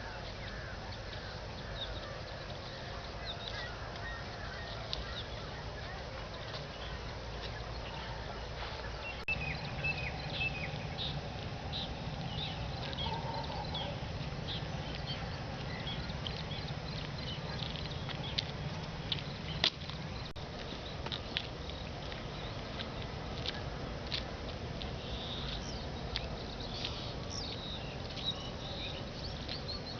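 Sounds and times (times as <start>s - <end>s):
birds chirping: 0.0s - 29.9s
steady low rumble: 0.0s - 29.9s.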